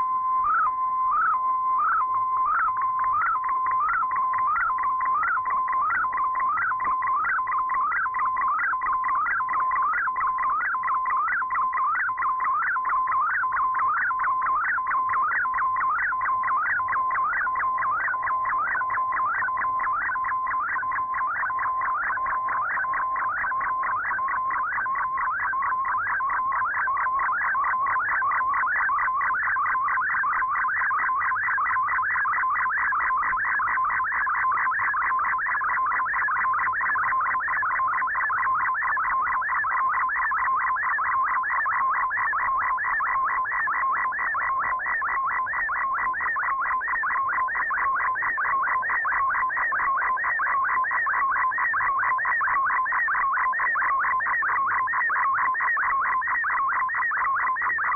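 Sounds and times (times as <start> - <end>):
warbling data signal tones: 0.0 - 57.9.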